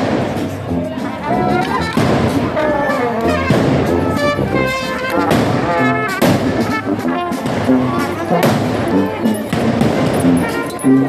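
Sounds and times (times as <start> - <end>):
marching band with brass: 0.0 - 11.0.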